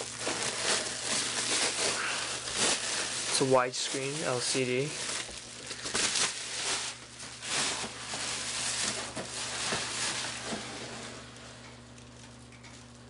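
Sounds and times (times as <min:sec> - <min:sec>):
plastic wrap crackling: 0:00.0 - 0:13.0.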